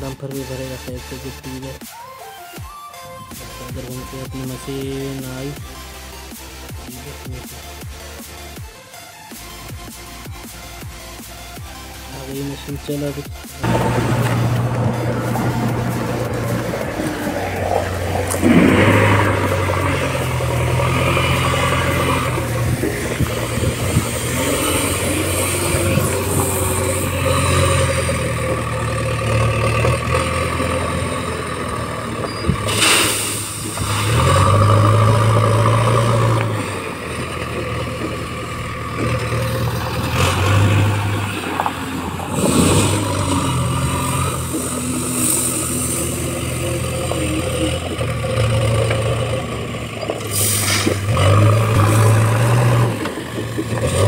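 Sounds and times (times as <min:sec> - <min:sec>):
diesel engine revving: 0:00.0 - 0:01.9, 0:02.9 - 0:54.0.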